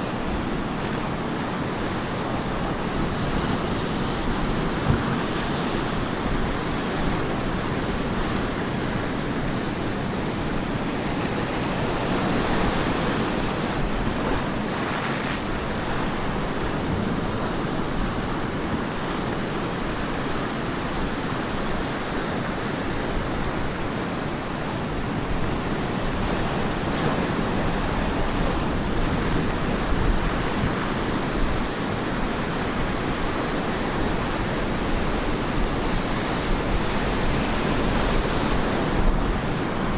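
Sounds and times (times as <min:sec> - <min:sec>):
ocean surf breaking on beach: 0:00.0 - 0:39.9
wind on microphone: 0:00.0 - 0:39.9.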